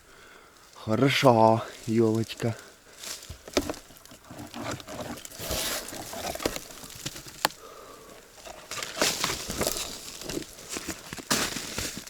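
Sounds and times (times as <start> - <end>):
footsteps crunching on snow and leaves: 0.6 - 12.0.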